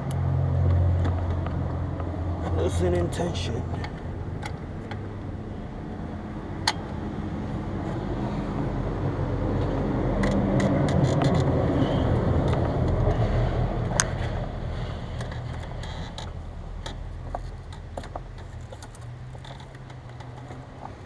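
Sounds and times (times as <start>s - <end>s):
car engine low hum: 0.0s - 21.0s.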